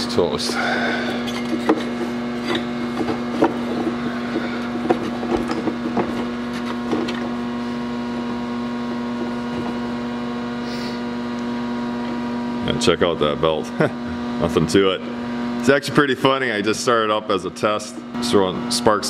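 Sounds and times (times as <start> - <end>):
steady multi-tone hum: 0.0 - 19.0.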